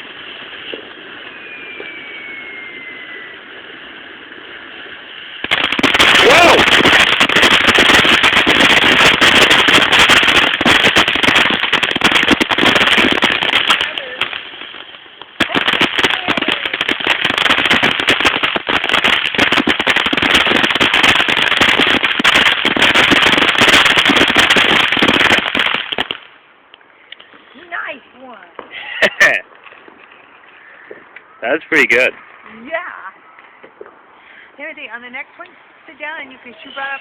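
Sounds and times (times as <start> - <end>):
firecrackers crackling: 0.0 - 37.0.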